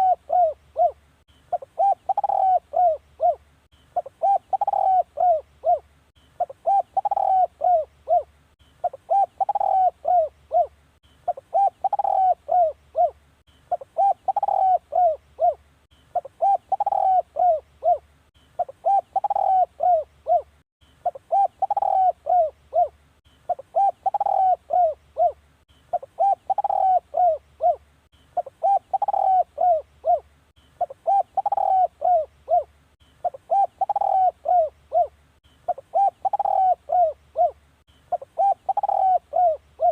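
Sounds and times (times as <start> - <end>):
dove cooing: 0.0 - 3.4, 4.0 - 27.8, 28.4 - 39.9.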